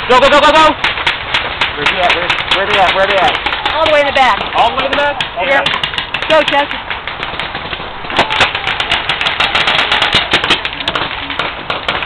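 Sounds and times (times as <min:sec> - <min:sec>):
paintball markers firing: 0:00.3 - 0:12.0.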